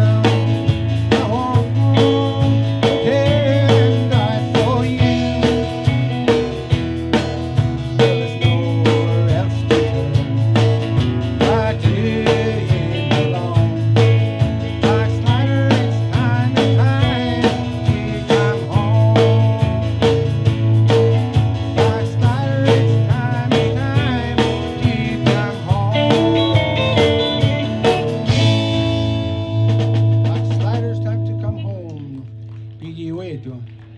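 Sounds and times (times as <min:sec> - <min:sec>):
live gospel band playing: 0:00.0 - 0:33.9.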